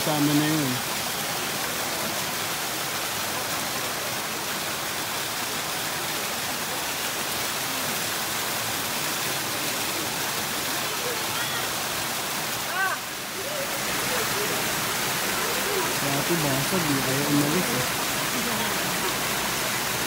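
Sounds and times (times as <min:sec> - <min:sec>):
waterfall splashing into pool: 0:00.0 - 0:20.0.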